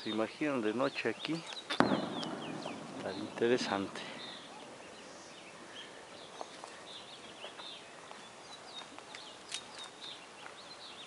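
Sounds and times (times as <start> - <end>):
birds chirping and calling: 0.0 - 11.0
faint open-air background: 0.0 - 11.0.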